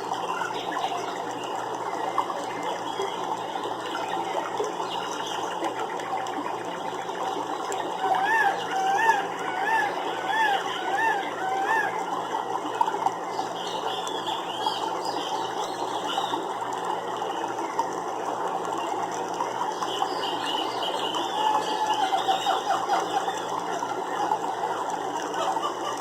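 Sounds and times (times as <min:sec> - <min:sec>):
rapid clicking animal chorus: 0:00.0 - 0:26.0.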